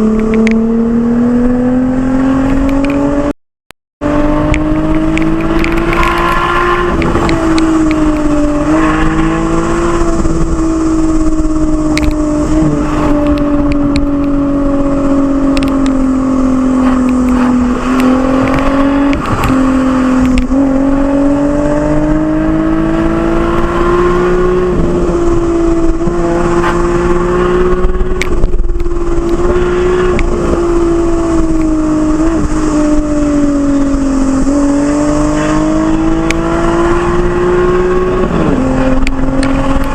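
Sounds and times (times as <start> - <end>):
car exhaust drone: 4.0 - 39.9.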